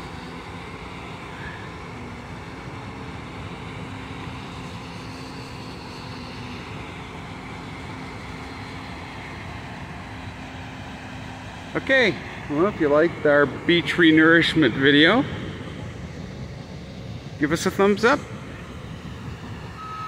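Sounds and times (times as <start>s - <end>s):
bulldozer engine hum: 0.0s - 20.0s.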